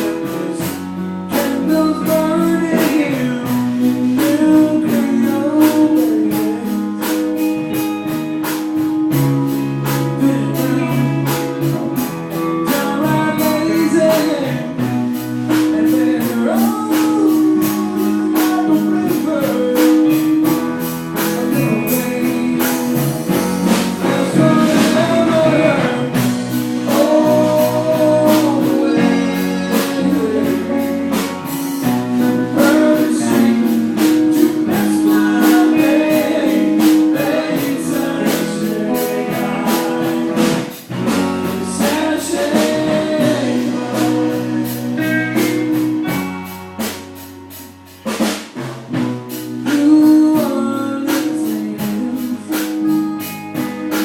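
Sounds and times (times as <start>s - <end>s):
person singing: 0.0s - 8.4s, 9.6s - 46.2s, 49.5s - 54.0s
band playing a song: 0.0s - 54.0s.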